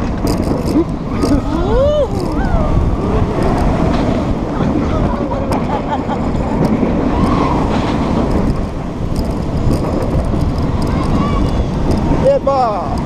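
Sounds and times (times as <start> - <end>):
roller coaster wheels roaring: 0.0 - 13.0
wind rushing over microphone: 0.0 - 13.0.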